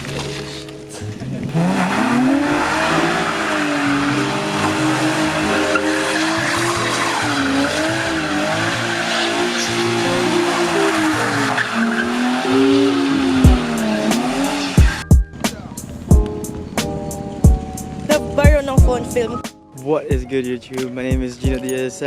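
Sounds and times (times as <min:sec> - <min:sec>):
tires squealing and skidding: 0:00.0 - 0:18.2
car engine revving: 0:00.0 - 0:19.5
background music: 0:00.0 - 0:22.0.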